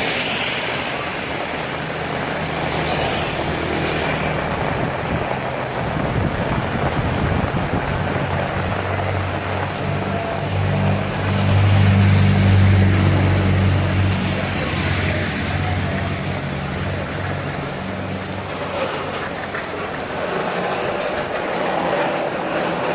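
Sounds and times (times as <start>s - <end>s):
heavy rain falling: 0.0s - 22.9s
passing vehicle engine hum: 0.0s - 22.9s.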